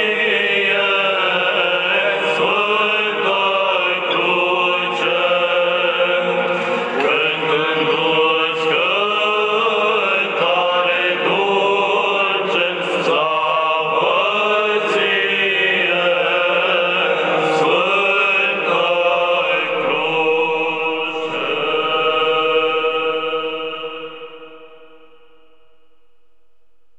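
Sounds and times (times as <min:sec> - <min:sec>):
church choir chanting a hymn: 0:00.0 - 0:25.4.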